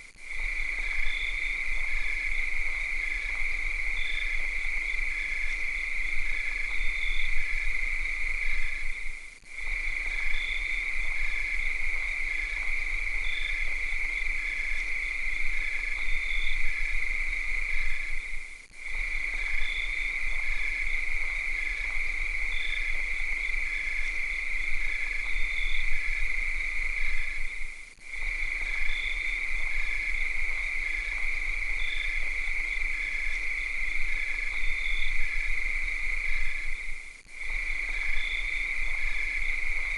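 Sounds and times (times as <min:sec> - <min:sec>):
cicadas droning: 0:00.0 - 0:39.9
faint pulsing insect call: 0:00.0 - 0:39.9.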